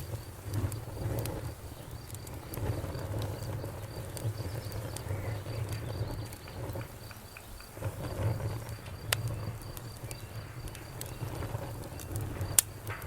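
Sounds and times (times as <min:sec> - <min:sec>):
sharp pops from fire: 0:00.0 - 0:13.0
wood fire crackling: 0:00.0 - 0:13.0.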